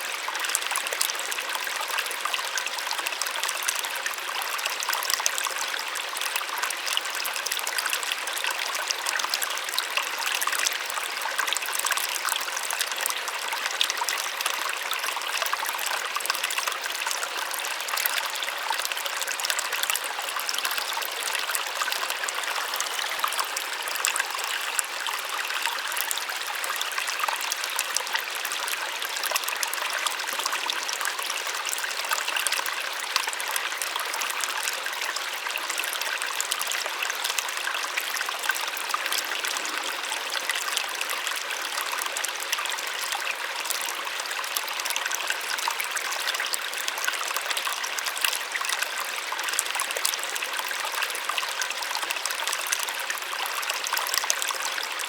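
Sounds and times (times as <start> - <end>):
small waterfall splashing: 0.0 - 55.0.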